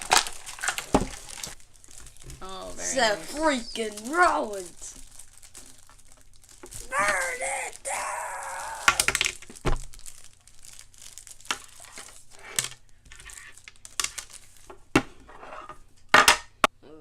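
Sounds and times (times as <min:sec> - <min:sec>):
packaging crinkling and tearing: 0:00.0 - 0:14.8.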